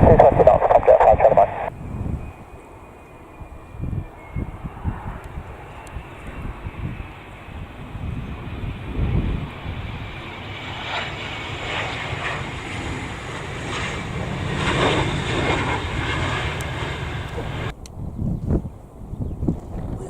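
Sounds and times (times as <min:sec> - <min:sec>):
jet engines running: 0:00.0 - 0:17.8
wind rumbling on microphone: 0:00.0 - 0:20.0.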